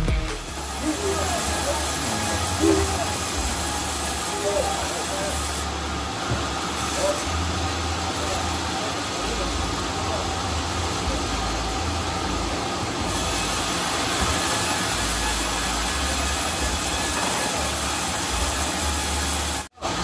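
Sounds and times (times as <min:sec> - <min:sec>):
sawmill machinery running: 0:00.0 - 0:20.0.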